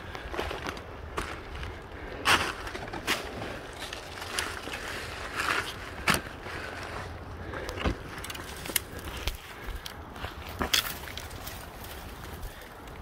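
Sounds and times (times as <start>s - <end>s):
footsteps on leaves and rock: 0.0s - 13.0s.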